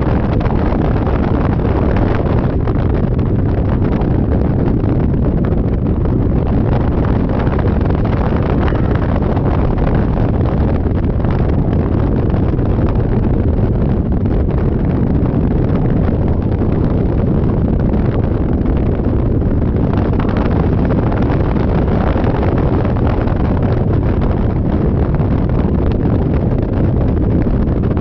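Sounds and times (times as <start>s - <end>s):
road noise: 0.0s - 28.0s
wind rushing over microphone: 0.0s - 28.0s.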